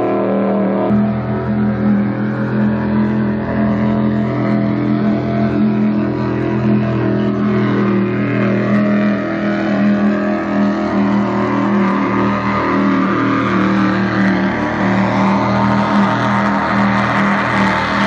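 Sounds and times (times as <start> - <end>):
motors droning hum: 0.0 - 18.0.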